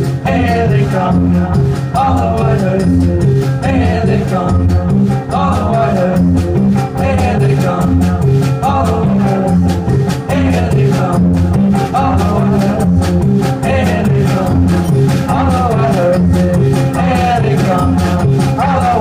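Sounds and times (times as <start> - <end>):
drum kit played with sticks: 0.0 - 19.0
electric guitar: 0.0 - 19.0
low repeating bass line: 0.0 - 19.0.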